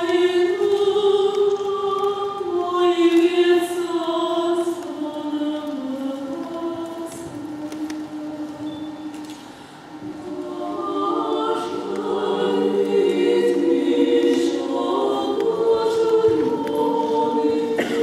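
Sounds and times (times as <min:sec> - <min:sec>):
female voices singing in harmony: 0:00.0 - 0:18.0.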